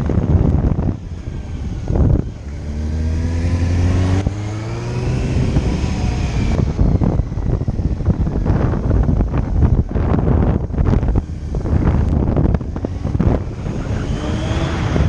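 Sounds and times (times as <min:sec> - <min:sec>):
motorcycle engine accelerating: 0:00.0 - 0:15.0
wind buffeting microphone: 0:00.0 - 0:15.0.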